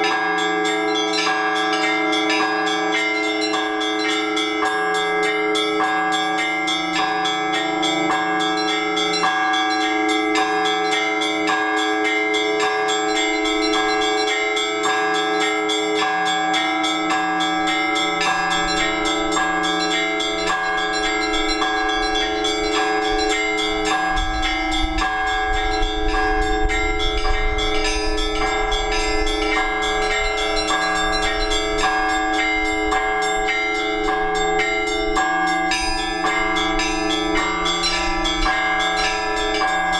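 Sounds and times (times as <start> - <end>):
large bells humming: 0.0 - 39.9
small church bells ringing: 0.0 - 39.9.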